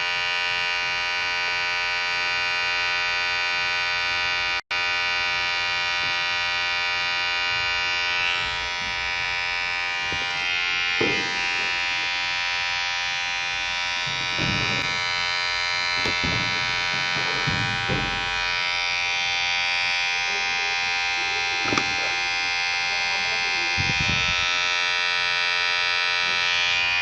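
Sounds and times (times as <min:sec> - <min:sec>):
electric hair clipper buzzing: 0:00.0 - 0:27.0.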